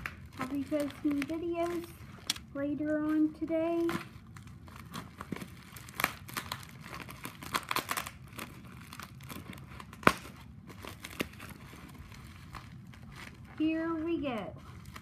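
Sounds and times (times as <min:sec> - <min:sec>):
packing wrap crinkling: 0:00.0 - 0:15.0.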